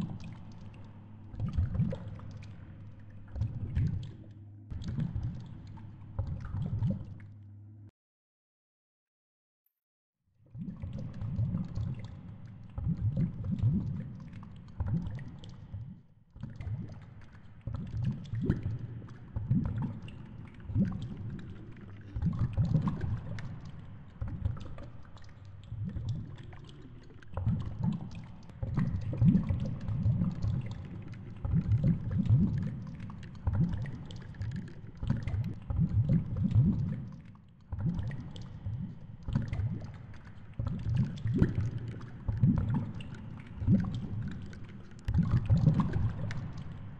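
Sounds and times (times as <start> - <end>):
muffled underwater rumble: 0.0 - 7.9, 10.6 - 37.2, 37.8 - 46.9.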